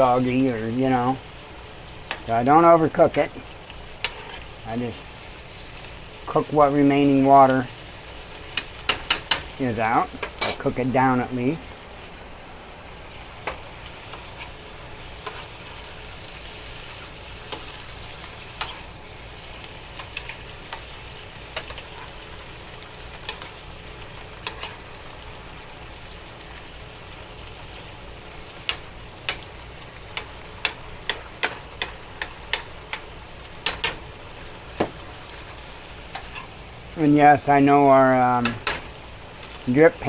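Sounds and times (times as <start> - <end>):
vegetables sizzling in a pan: 0.0 - 40.0.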